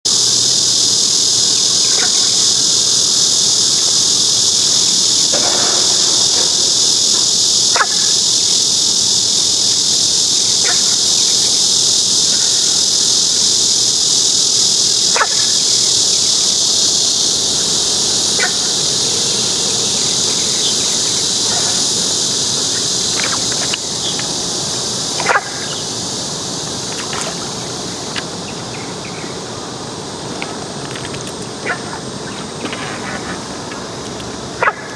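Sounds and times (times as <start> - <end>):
insect chorus chirring: 0.0 - 34.9.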